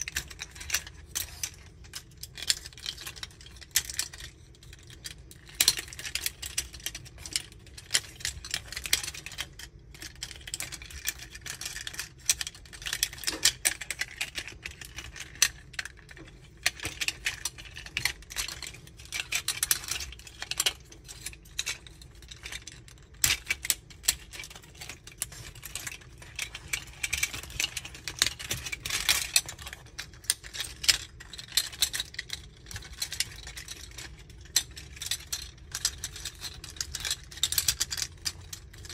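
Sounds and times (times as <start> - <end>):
plastic toy parts clicking: 0.0 - 38.9.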